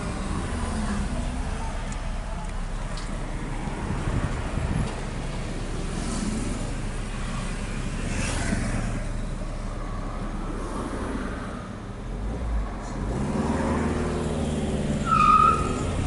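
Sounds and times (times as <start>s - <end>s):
car engine rumble: 0.0s - 16.0s
tyre and road noise: 0.0s - 16.0s.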